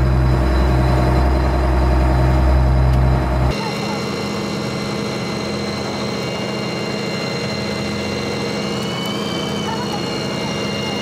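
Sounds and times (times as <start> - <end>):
boat engine drone with whine: 0.0 - 11.0.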